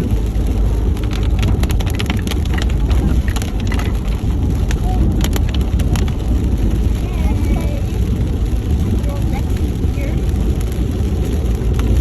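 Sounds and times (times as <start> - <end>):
engine and road rumble: 0.0 - 12.0
heavy rain on vehicle: 0.0 - 12.0.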